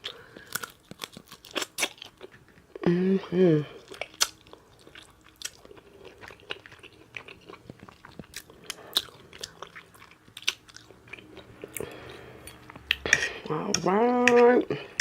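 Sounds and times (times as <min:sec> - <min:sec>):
person chewing with mouth open: 0:00.0 - 0:02.8, 0:03.7 - 0:13.5.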